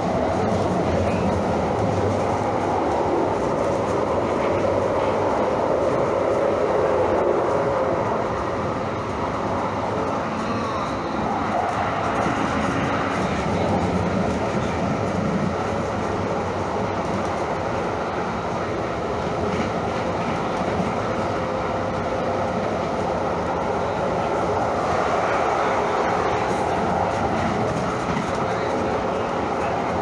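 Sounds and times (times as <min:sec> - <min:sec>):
light rail car running: 0:00.0 - 0:30.0.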